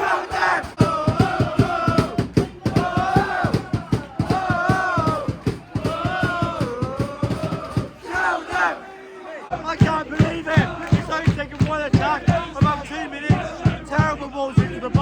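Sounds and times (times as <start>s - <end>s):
steady drum beat: 0.0s - 8.8s, 9.6s - 15.0s
football crowd chanting: 0.0s - 15.0s.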